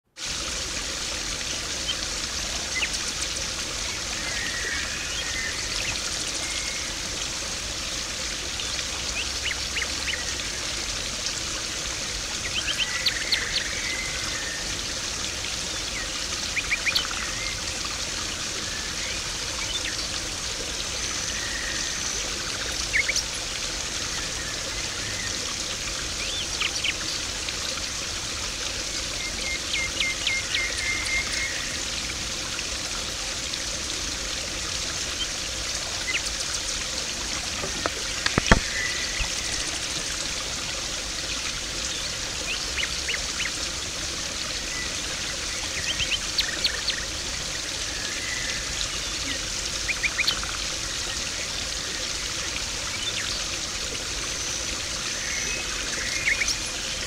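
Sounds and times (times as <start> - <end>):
pond water splashing and trickling: 0.0 - 57.0.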